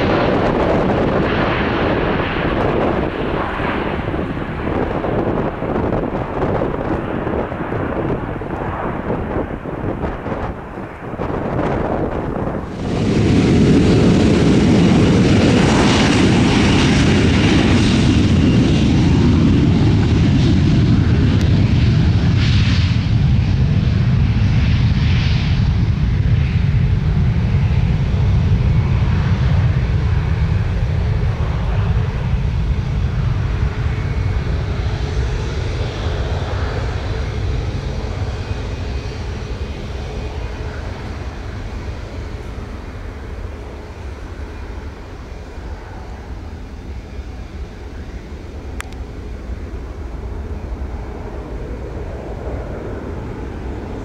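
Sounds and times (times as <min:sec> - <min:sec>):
jet airliner taking off: 0:00.0 - 0:54.0.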